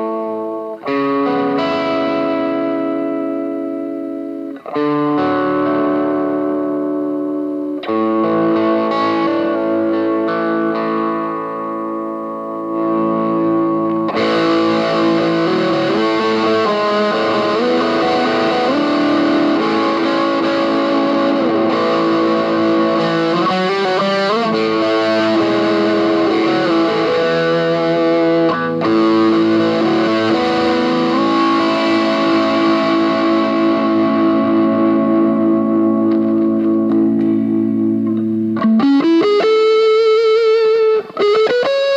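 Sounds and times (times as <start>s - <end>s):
electric guitar playing chords: 0.0s - 41.9s.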